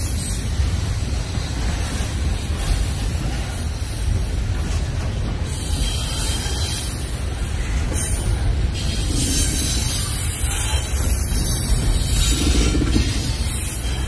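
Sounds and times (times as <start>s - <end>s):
train cars rumbling on rails: 0.0s - 14.0s.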